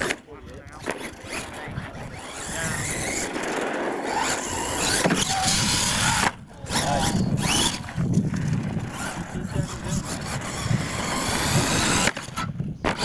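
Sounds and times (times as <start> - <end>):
toy truck motor whining: 0.0 - 13.0
tyres and drivetrain noise: 0.0 - 13.0.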